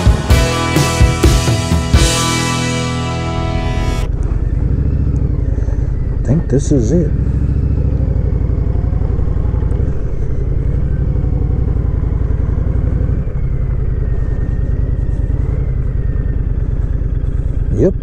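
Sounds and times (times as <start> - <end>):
motorcycle engine at low revs: 0.0 - 18.0.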